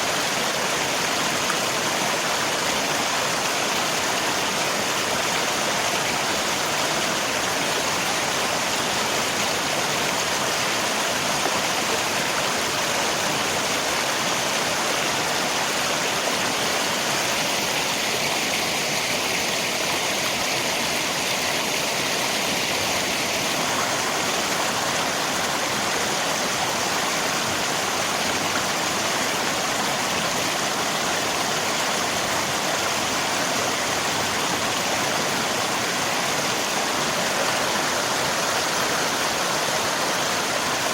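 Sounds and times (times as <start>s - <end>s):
rain falling: 0.0s - 40.9s
river water flowing: 0.0s - 40.9s.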